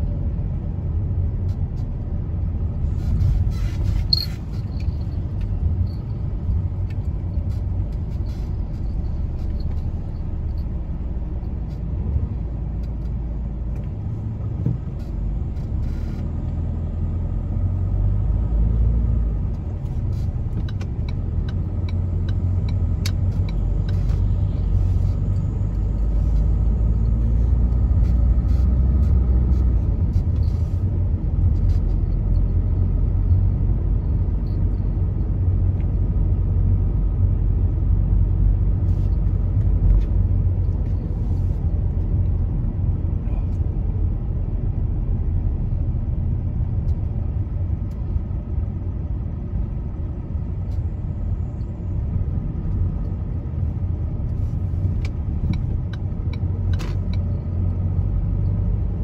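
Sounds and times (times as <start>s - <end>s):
car interior engine and tyre rumble: 0.0s - 59.0s.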